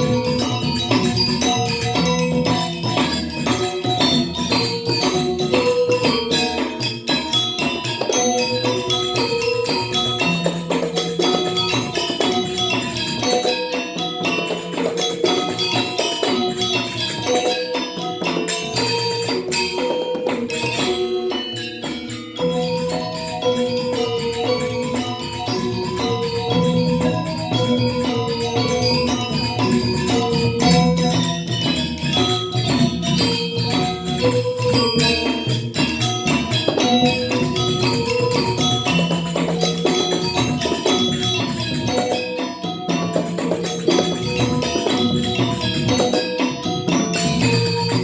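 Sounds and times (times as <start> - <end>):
metallophones playing quick runs: 0.0 - 48.0.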